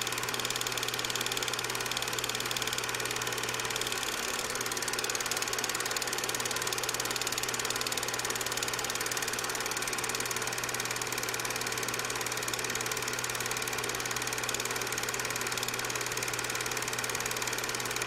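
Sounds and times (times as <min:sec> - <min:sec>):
fast machine-like pulsing: 0:00.0 - 0:18.0.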